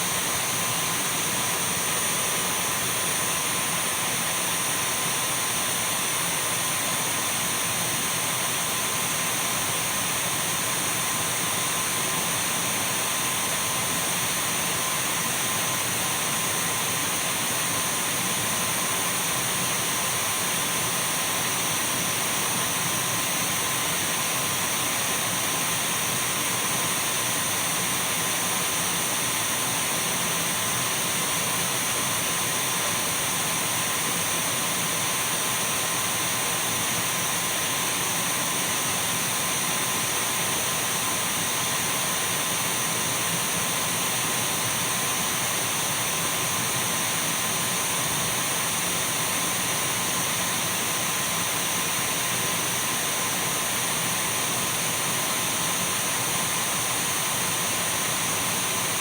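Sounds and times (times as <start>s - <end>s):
cordless vacuum cleaner running: 0.0s - 59.0s.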